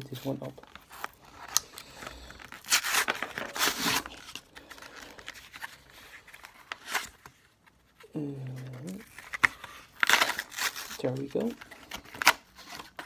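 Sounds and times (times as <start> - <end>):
blister pack being torn open: 0.8 - 7.2, 8.8 - 13.0.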